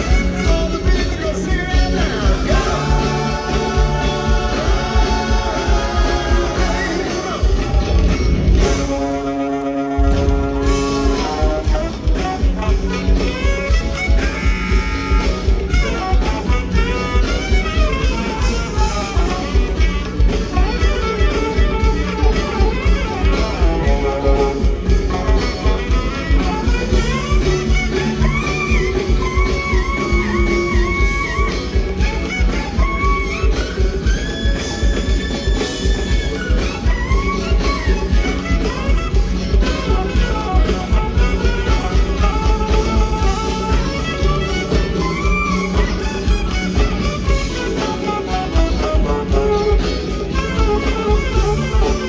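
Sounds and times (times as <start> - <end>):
live rock band: 0.0 - 52.0
saxophone lead melody: 0.0 - 52.0.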